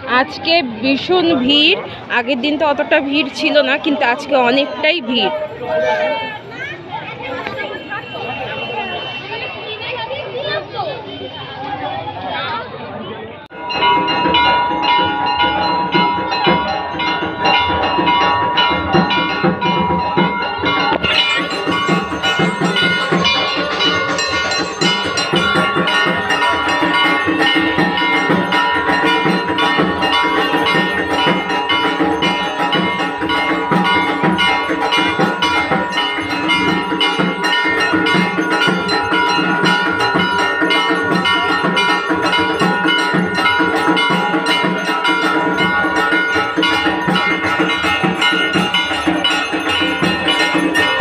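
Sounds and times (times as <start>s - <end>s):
brass bells ringing: 0.9s - 6.5s, 13.5s - 51.0s.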